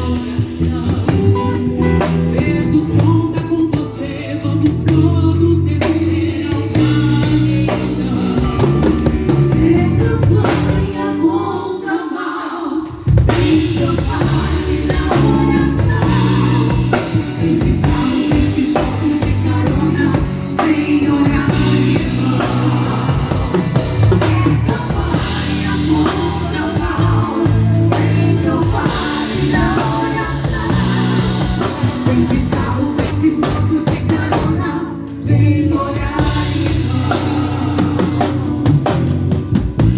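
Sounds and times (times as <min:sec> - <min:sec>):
band playing worship song: 0:00.0 - 0:39.9
people singing: 0:00.0 - 0:39.9.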